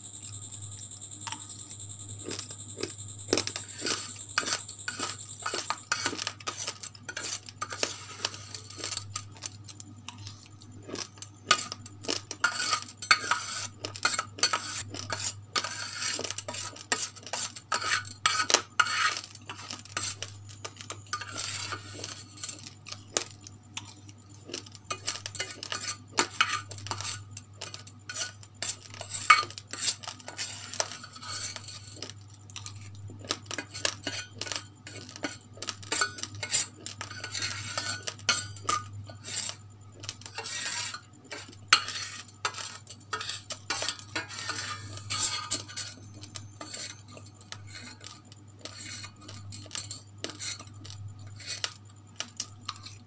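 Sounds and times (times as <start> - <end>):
metal spoon scraping steel plate: 2.2 - 53.0.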